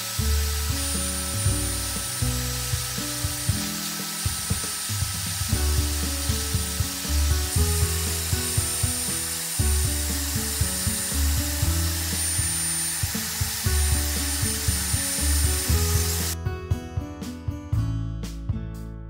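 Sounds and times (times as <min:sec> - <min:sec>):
shop vacuum whining: 0:00.0 - 0:16.4
background music: 0:00.0 - 0:19.0.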